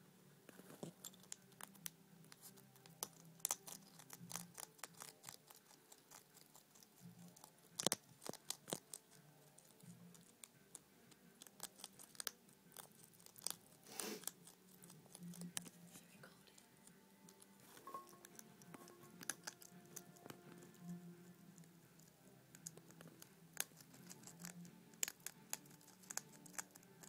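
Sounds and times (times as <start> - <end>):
hedgehog crunching dry kibble: 0.5 - 27.0.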